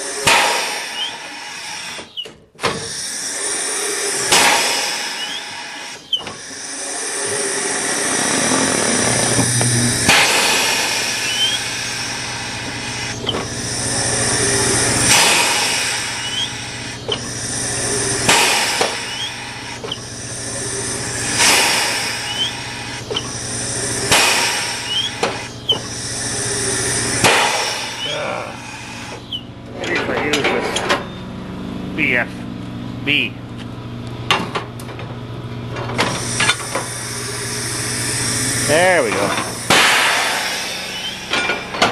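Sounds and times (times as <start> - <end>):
compressed air hissing: 0.0 - 29.5, 36.1 - 41.9.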